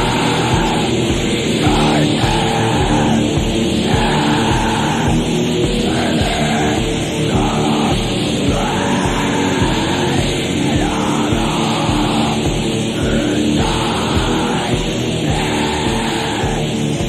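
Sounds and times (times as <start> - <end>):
distorted guitars and drums: 0.0 - 17.0
shrieked vocals: 0.0 - 17.0.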